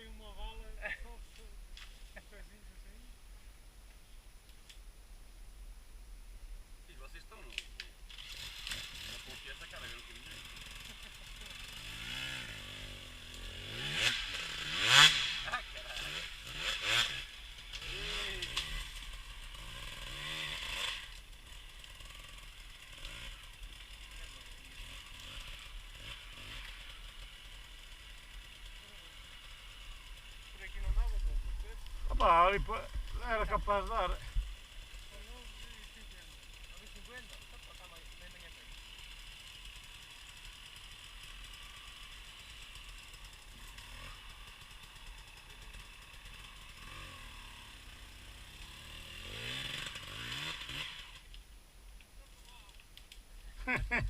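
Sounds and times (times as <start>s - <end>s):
motorcycle engine revving: 7.5s - 51.4s.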